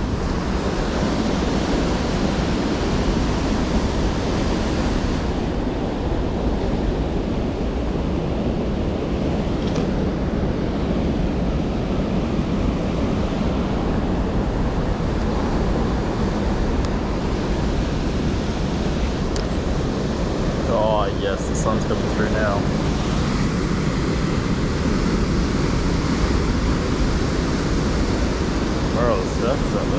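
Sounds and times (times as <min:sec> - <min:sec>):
heavy surf breaking on boulders: 0:00.0 - 0:29.9
wind rumbling on microphone: 0:00.0 - 0:29.9.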